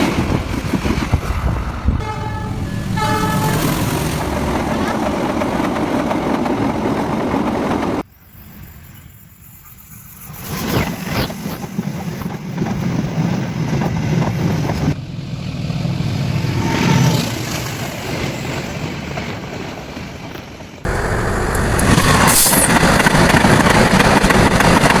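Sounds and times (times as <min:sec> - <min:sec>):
train rumbling: 0:00.0 - 0:08.1, 0:09.4 - 0:25.0.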